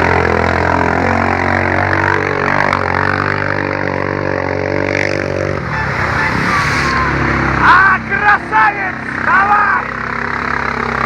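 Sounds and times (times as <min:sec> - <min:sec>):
atv engine at high revs: 0:00.0 - 0:11.0.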